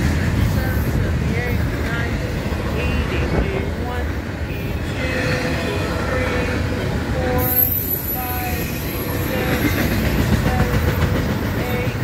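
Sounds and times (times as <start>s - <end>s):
steel wheels rumbling on rail: 0.0s - 12.0s.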